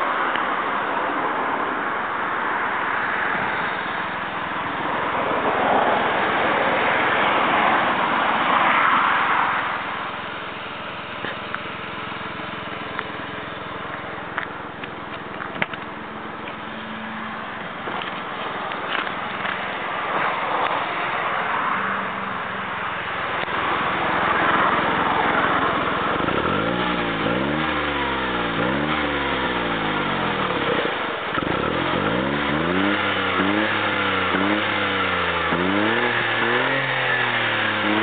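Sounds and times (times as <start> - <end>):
car engine through exhaust: 0.0 - 38.0.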